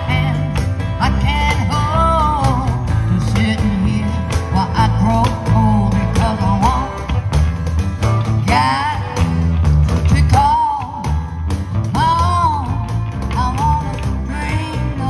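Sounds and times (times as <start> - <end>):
bending lead guitar line: 0.0 - 15.0
live rock and roll band: 0.0 - 15.0.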